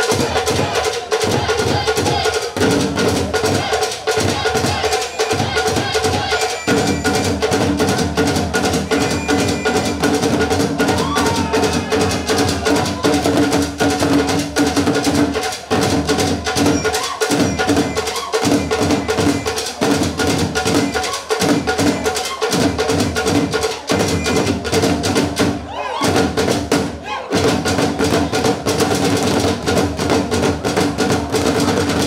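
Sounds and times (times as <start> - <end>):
drum ensemble playing fast rhythm: 0.0 - 32.0.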